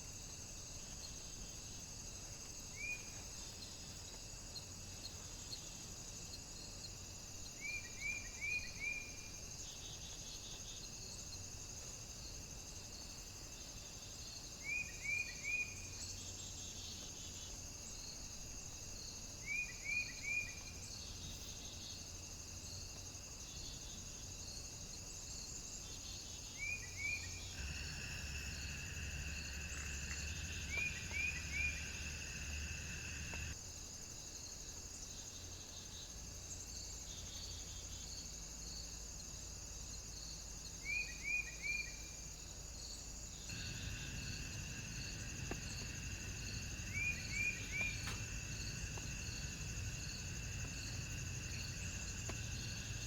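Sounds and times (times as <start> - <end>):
high-pitched cricket trills: 0.0 - 53.0
lower-pitched insect trill: 0.1 - 33.6, 34.4 - 53.0.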